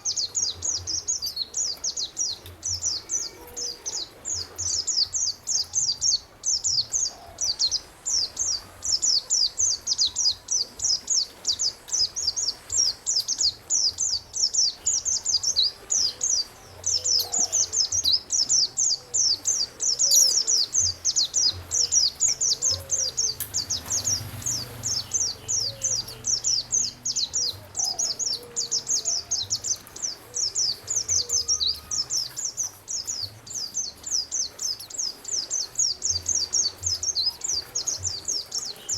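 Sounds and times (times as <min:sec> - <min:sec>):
faint bird calls: 0:00.0 - 0:33.6
songbird singing: 0:00.0 - 0:38.9.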